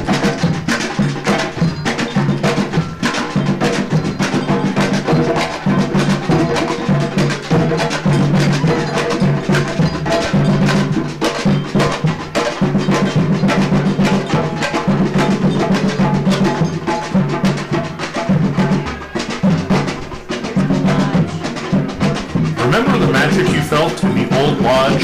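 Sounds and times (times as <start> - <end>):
drum ensemble playing: 0.0 - 25.0.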